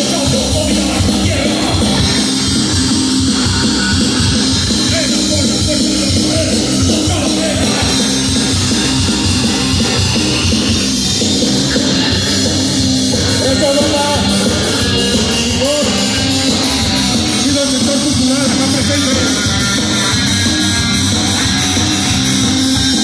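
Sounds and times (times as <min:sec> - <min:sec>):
bass: 0:00.0 - 0:23.0
drum kit: 0:00.0 - 0:23.0
electric guitar: 0:00.0 - 0:23.0.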